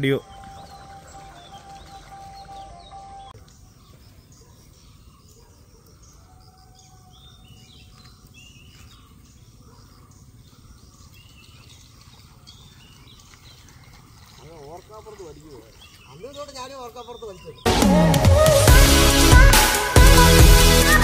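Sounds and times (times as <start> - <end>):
birds chirping: 0.0 - 18.7.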